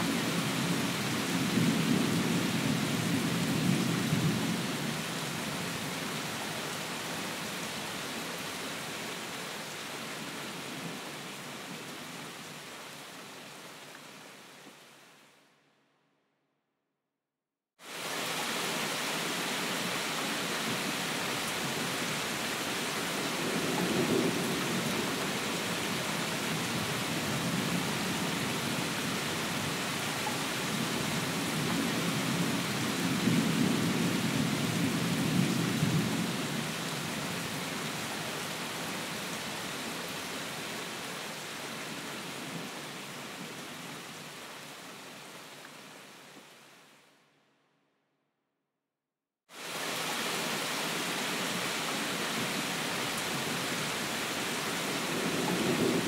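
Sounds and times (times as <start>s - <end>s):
heavy rain: 0.0s - 15.4s, 17.8s - 47.1s, 49.5s - 56.0s.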